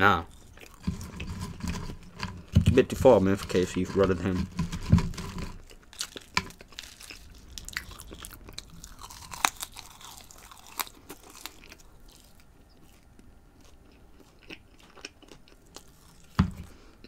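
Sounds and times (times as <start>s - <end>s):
chewing fries: 0.0s - 17.0s.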